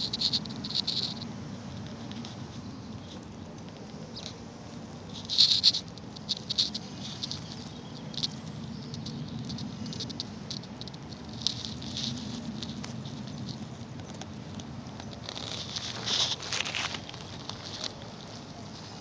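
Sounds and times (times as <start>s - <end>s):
grass rustling at microphone: 0.0s - 19.0s.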